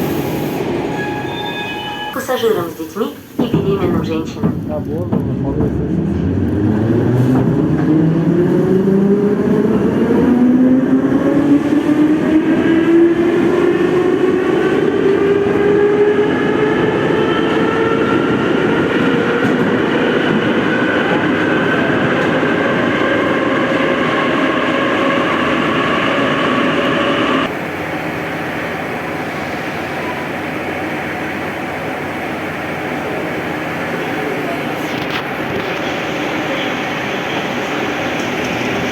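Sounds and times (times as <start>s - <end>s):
wheels rumbling on rails: 3.3s - 38.9s.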